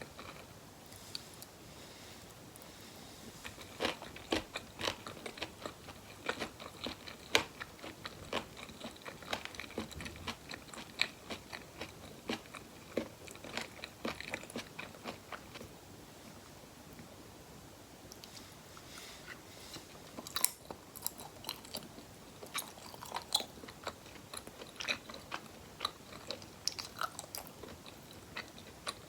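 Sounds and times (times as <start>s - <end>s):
crunchy chewing: 0.0s - 1.5s, 3.4s - 15.7s, 18.2s - 29.0s.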